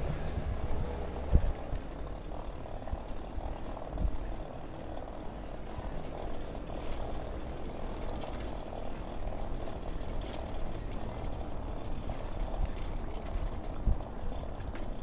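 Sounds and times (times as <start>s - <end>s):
bicycle rolling over brick paving: 1.2s - 15.0s.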